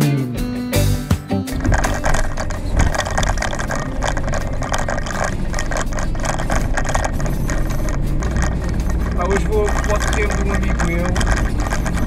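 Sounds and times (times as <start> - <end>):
van engine and road rumble: 0.8 - 12.0
cabin rattling and clattering: 1.5 - 12.0.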